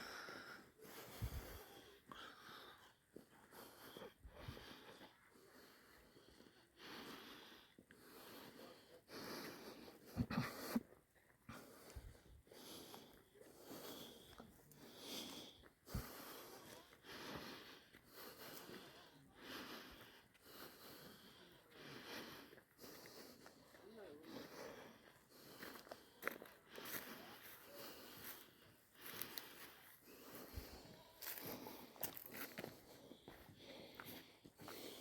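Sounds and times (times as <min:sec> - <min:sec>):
faint breathing: 0:00.0 - 0:35.0.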